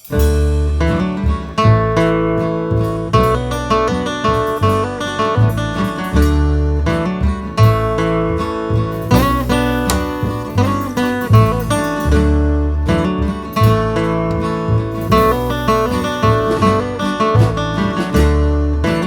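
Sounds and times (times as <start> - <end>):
acoustic guitar strumming: 0.0 - 19.0
low bass notes: 0.0 - 19.0.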